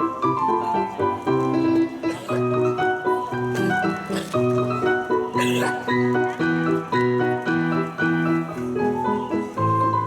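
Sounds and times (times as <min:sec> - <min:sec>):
piano duet: 0:00.0 - 0:10.0.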